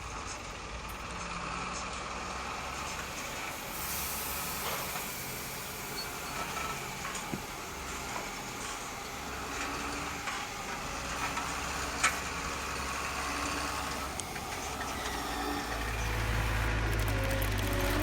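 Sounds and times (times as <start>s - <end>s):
model truck engine drone: 0.0s - 18.0s.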